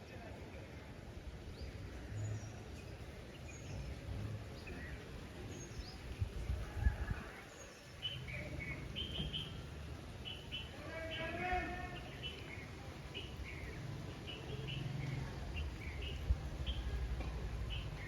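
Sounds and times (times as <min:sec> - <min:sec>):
low rumbling background noise: 0:00.0 - 0:18.0
birds chirping: 0:01.4 - 0:18.0.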